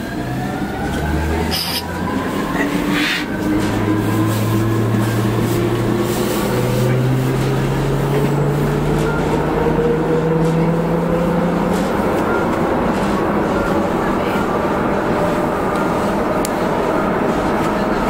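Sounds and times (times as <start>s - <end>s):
wheels running on rail: 0.0s - 18.0s.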